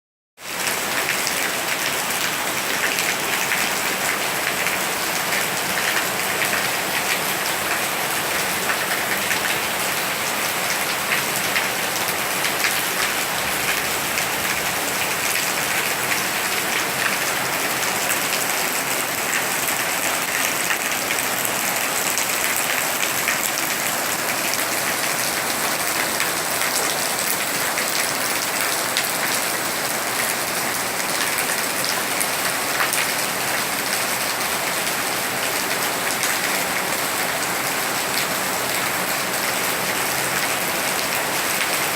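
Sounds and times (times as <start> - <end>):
steady rain falling: 0.4 - 41.9.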